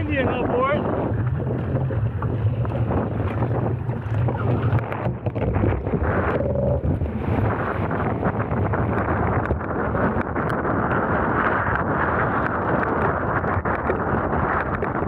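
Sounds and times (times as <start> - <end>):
water splashing along a hull: 0.0 - 15.0
wind buffeting the microphone: 0.0 - 15.0.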